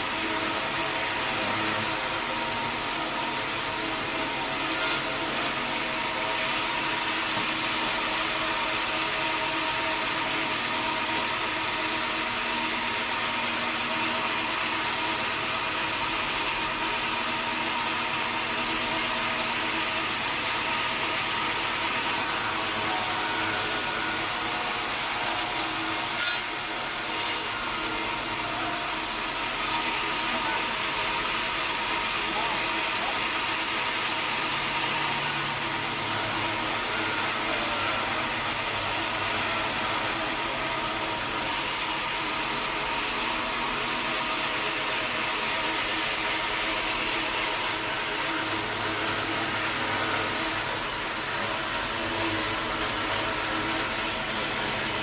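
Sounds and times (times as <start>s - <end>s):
sawmill machinery hum: 0.0s - 55.0s.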